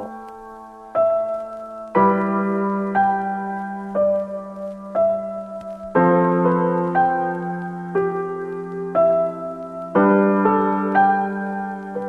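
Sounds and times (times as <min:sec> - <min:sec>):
slow soft piano music: 0:00.0 - 0:12.0.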